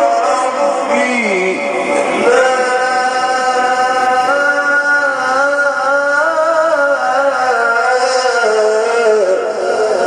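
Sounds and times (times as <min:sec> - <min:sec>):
man reciting in long sung note: 0:00.0 - 0:10.0.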